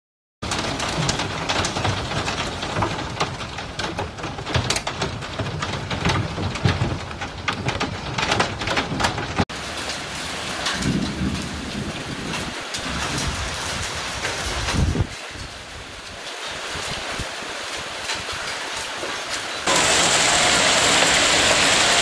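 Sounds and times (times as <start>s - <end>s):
hailstones striking window glass: 0.4s - 15.6s, 18.0s - 22.0s
hail and rain falling on lawn: 0.4s - 22.0s.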